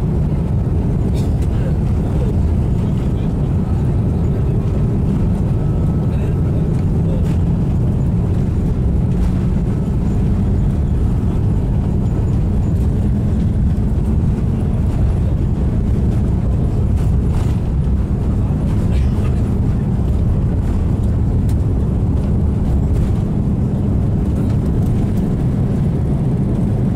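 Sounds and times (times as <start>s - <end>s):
jet cabin rumble while taxiing: 0.0s - 26.9s.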